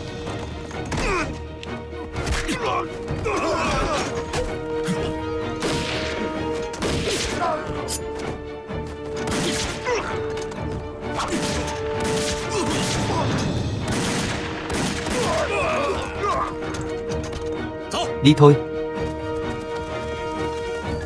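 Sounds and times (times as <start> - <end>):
dramatic film score: 0.0 - 21.0.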